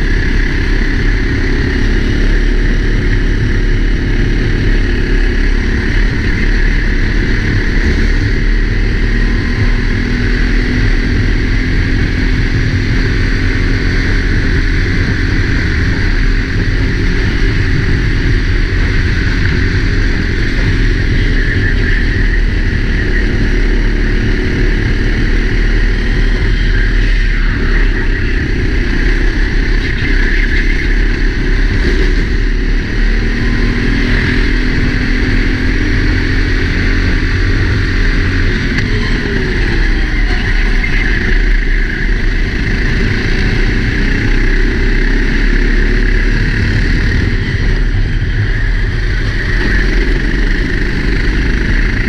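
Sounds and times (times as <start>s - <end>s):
wind rush: 0.0s - 45.5s
kart engine racing: 0.0s - 52.0s.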